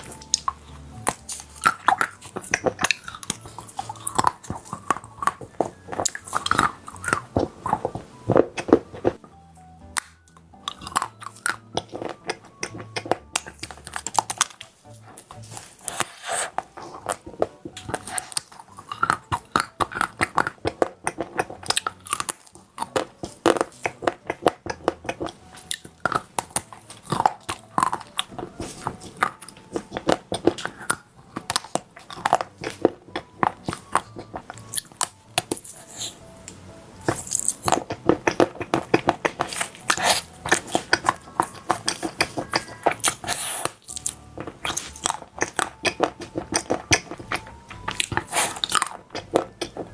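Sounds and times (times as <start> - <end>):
person chewing crispy food: 0.0 - 49.9.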